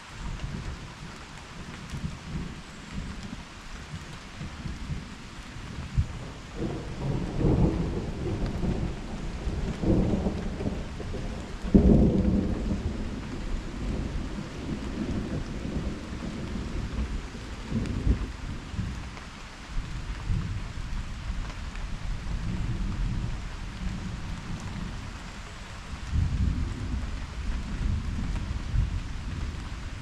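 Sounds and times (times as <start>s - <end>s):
steady rain: 0.0s - 30.0s
thunder rumbling: 1.6s - 30.0s.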